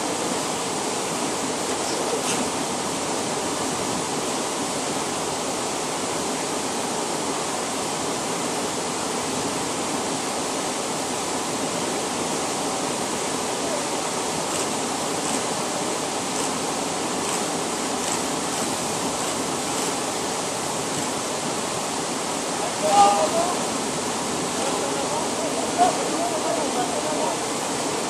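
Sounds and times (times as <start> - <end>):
water churning over rocks: 0.0 - 28.0.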